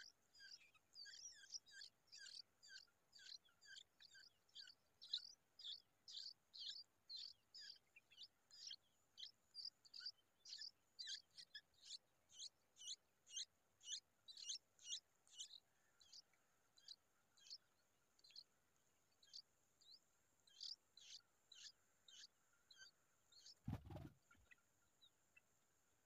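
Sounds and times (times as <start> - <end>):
nestlings begging with high chirps: 0.0 - 18.5, 19.1 - 24.6.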